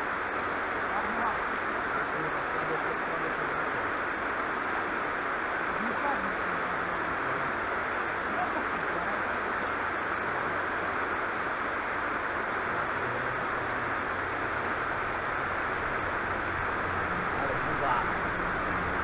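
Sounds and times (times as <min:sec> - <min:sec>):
river running over rocks: 0:00.0 - 0:19.0.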